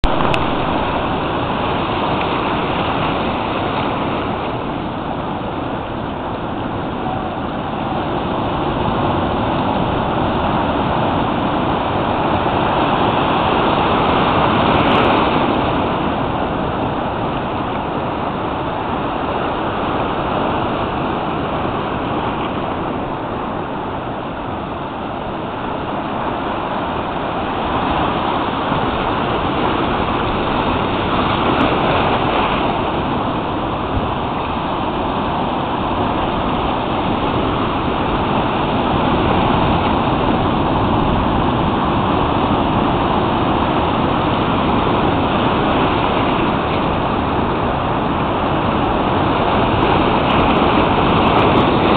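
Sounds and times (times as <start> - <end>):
sea waves breaking over rocks: 0.0 - 51.9.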